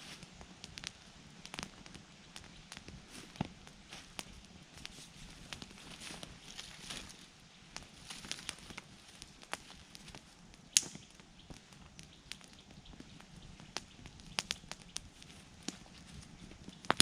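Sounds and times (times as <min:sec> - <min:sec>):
campfire crackling and popping: 0:00.0 - 0:17.0
soft hiss: 0:00.0 - 0:17.0.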